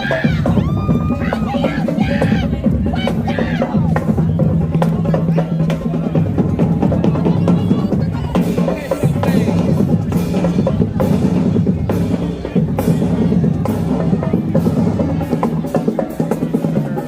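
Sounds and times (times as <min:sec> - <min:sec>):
drumline percussion: 0:00.0 - 0:17.0
marching band brass: 0:00.0 - 0:17.0.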